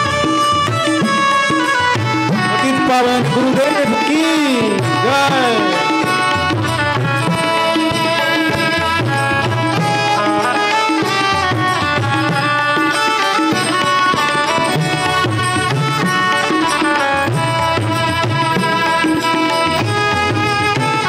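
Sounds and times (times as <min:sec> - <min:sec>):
sustained melody notes: 0:00.0 - 0:20.7
hand drum: 0:00.0 - 0:21.0.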